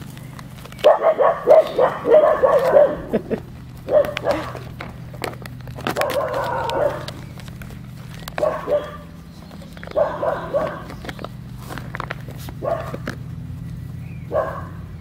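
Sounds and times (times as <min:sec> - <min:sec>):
puppies barking in play: 0:00.0 - 0:15.0.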